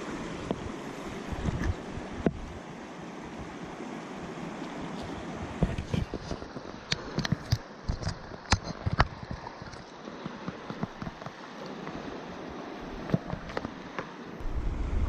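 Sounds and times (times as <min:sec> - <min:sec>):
rushing stream water: 0:00.0 - 0:15.0.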